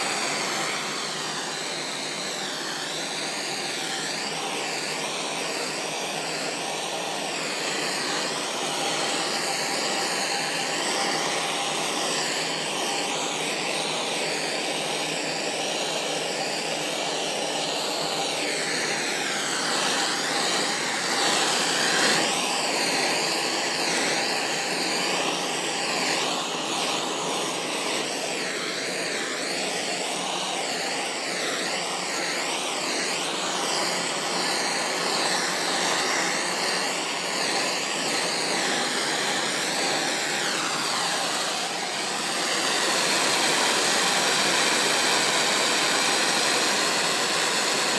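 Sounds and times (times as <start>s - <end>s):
blowtorch flame hissing: 0.0s - 47.9s.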